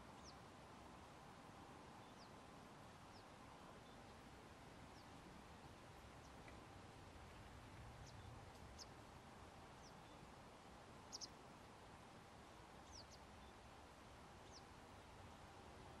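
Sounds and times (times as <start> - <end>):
quiet background hiss: 0.0 - 16.0.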